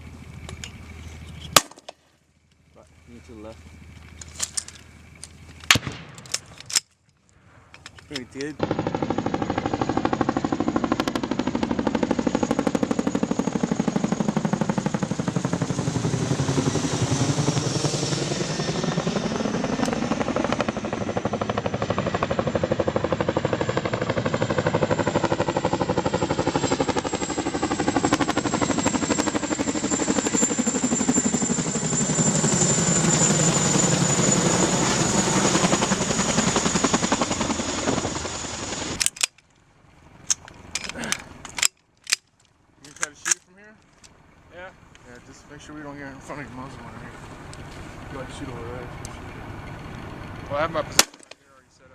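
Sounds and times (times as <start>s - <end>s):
aircraft engine drone: 0.0s - 1.6s, 2.2s - 51.9s.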